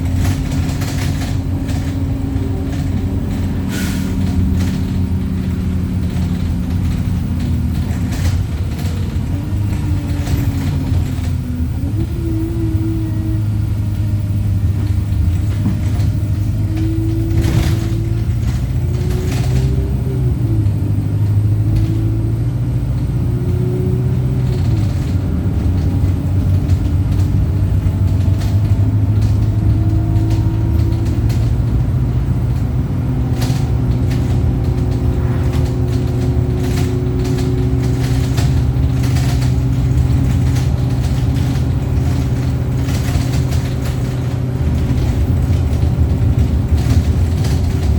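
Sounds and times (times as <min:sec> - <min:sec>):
rattles: 0:00.0 - 0:12.8, 0:13.7 - 0:20.0, 0:23.8 - 0:47.9
bus diesel engine drone: 0:00.0 - 0:47.9.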